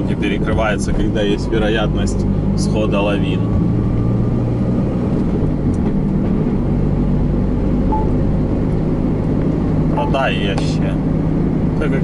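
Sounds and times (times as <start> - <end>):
tyre and road noise: 0.0 - 12.0
van engine drone: 0.0 - 12.0.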